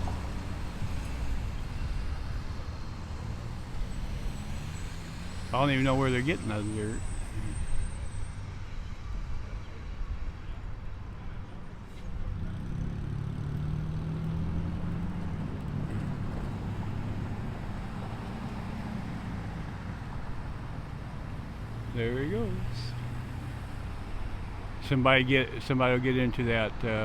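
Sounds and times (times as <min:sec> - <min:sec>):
truck engine rumbling: 0:00.0 - 0:08.9, 0:11.0 - 0:27.0.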